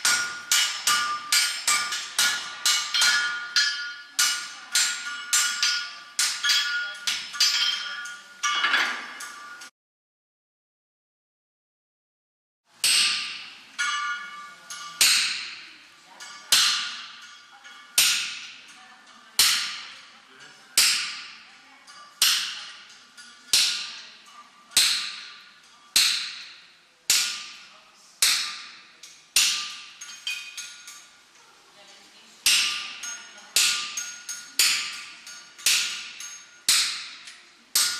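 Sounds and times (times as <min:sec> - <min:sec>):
hammer striking iron on anvil: 0:00.0 - 0:09.7, 0:12.8 - 0:18.8, 0:19.4 - 0:20.0, 0:20.8 - 0:31.1, 0:32.4 - 0:37.9.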